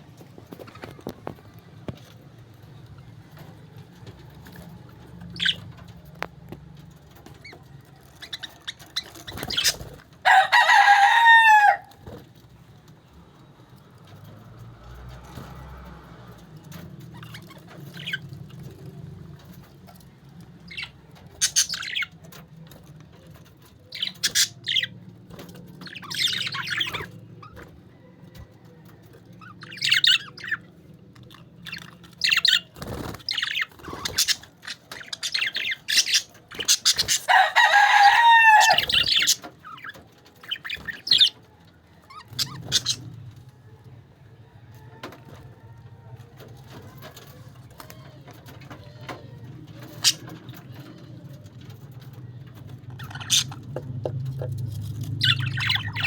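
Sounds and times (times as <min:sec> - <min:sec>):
parakeets chirping and chattering: 0:00.0 - 0:56.0.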